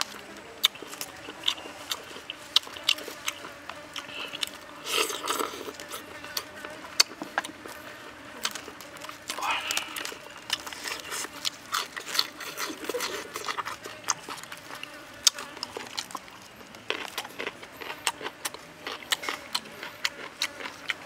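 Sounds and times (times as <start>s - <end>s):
person chewing wetly: 0.0s - 21.0s.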